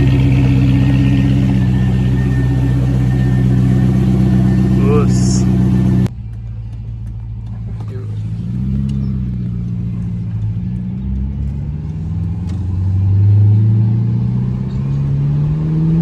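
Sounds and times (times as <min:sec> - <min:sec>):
car engine revving: 0:00.0 - 0:06.1, 0:07.5 - 0:16.0.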